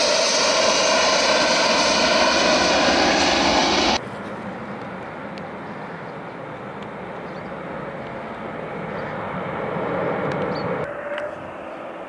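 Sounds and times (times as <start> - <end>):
airliner engines whining: 0.0 - 12.0.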